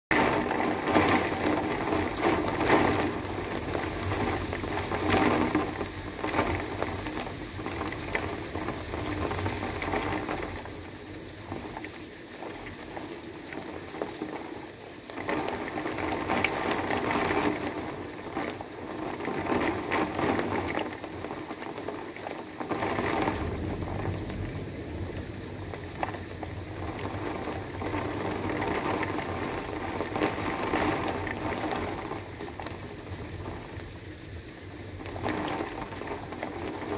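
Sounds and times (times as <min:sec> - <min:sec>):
hail impacts: 0:00.1 - 0:36.9
heavy wind-driven rain: 0:00.1 - 0:36.9.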